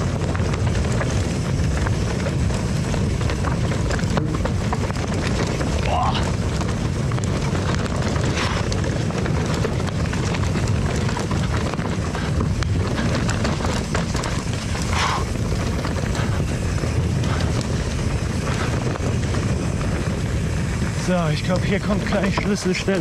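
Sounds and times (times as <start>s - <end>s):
bike tyres rolling over dirt trail: 0.0s - 23.0s
wind rushing over microphone: 0.0s - 23.0s.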